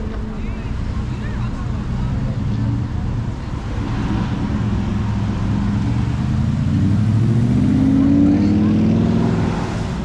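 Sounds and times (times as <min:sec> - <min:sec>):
low hum of traffic: 0:00.0 - 0:10.0
sports car engine accelerating: 0:02.0 - 0:10.0.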